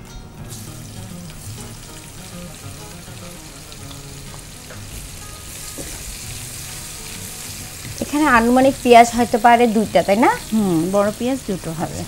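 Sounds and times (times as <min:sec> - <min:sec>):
onions sizzling in a frying pan: 0:00.3 - 0:12.0.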